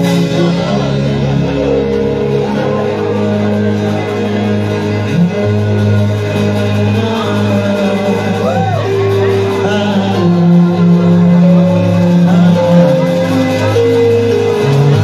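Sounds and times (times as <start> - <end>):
guitar: 0.0 - 15.0
steady bass: 0.0 - 15.0
sustained keyboard chords: 0.0 - 15.0.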